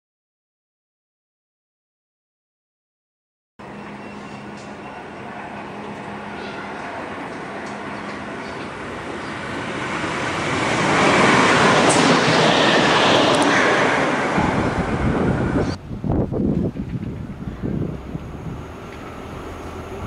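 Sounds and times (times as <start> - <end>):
diesel locomotives approaching: 3.6 - 20.0
diesel railcar passing: 3.6 - 20.0.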